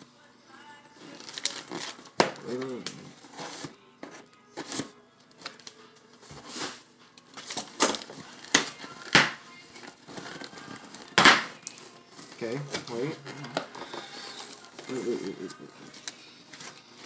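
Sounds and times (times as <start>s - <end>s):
packing tape cut and torn: 1.1s - 3.7s, 4.6s - 5.8s, 6.4s - 17.0s.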